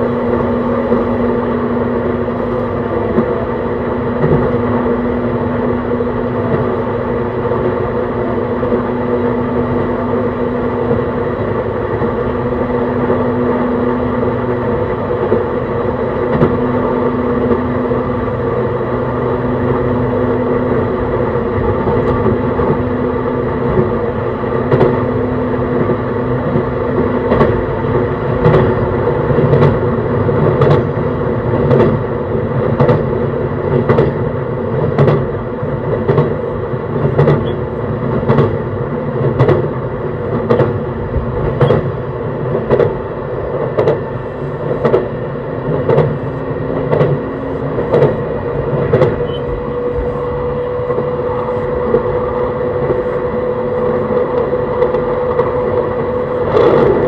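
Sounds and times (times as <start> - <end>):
train running gear hum: 0.0 - 57.0
train wheels clicking over rail joints: 0.0 - 57.0.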